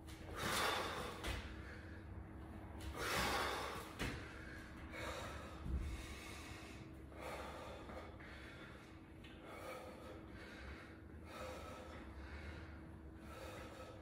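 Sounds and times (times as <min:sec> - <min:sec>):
man breathing hard: 0:00.2 - 0:14.0.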